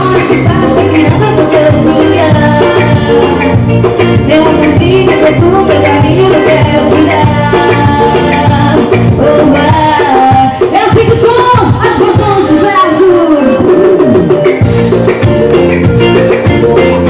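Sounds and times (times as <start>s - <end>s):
woman singing into microphone: 0.0s - 14.1s
latin band playing: 0.0s - 17.0s.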